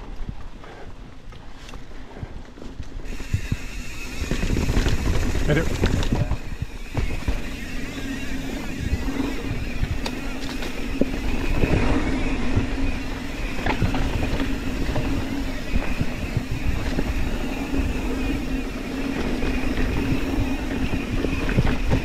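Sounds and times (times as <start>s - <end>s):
bike knocking and rattling: 0.0s - 22.0s
bike tyres rolling on dirt: 0.0s - 22.0s
steady buzz: 3.0s - 22.0s.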